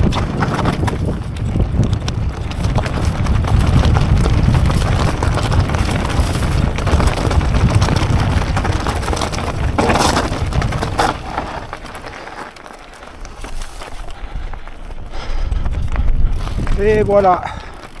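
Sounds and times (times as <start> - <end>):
wind rumble on microphone: 0.0 - 12.2, 13.2 - 18.0
bike rattling: 0.0 - 18.0
tyres crunching on rocks: 0.0 - 18.0.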